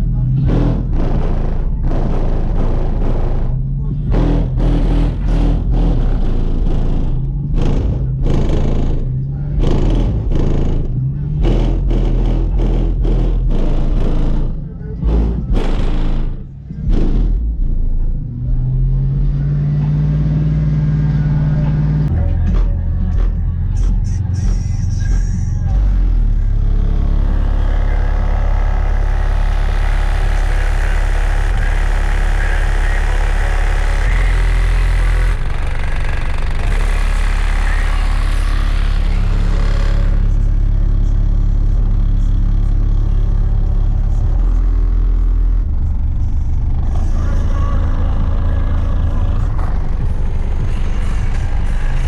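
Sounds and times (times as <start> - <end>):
deep bass notes from subwoofers: 0.0 - 52.0.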